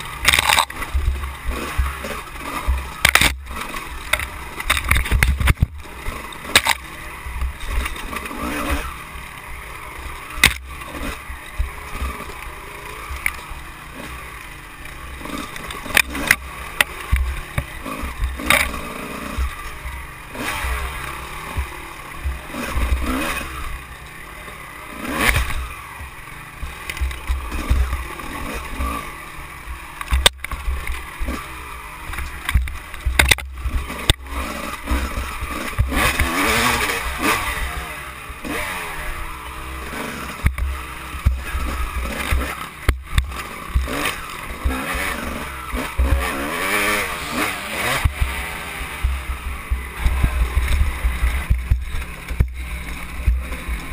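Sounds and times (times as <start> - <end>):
knocks and clatter over bumps: 0.0 - 9.4, 10.0 - 24.1, 25.0 - 53.9
dirt bike engine revving: 0.0 - 53.9.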